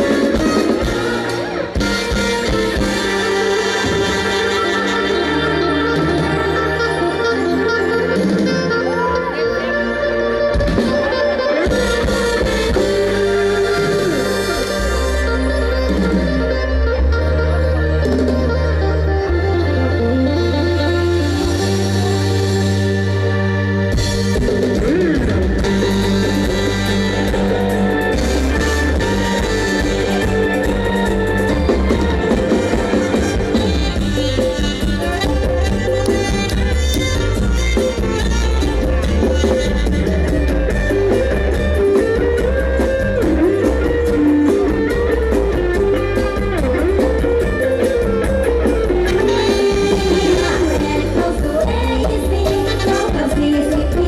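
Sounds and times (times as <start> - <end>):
rock band with electric guitar: 0.0 - 54.0.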